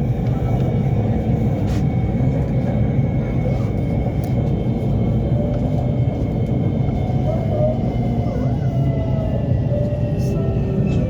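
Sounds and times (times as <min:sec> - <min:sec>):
train carriage low rumble: 0:00.0 - 0:11.0.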